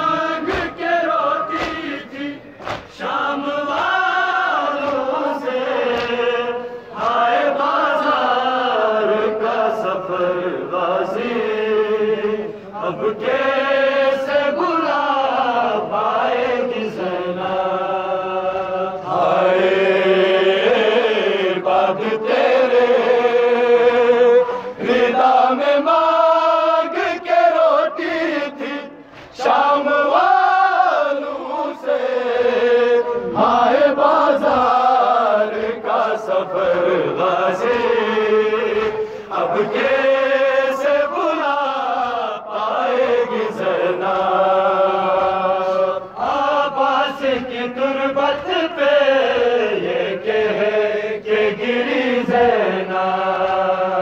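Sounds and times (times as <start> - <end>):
men chanting a mourning lament: 0.0 - 54.0.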